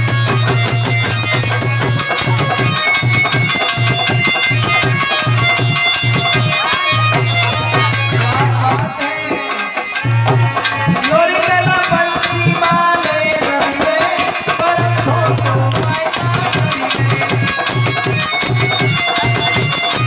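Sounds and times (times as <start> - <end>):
drum beat: 0.0 - 20.0
fast high percussion: 0.0 - 20.0.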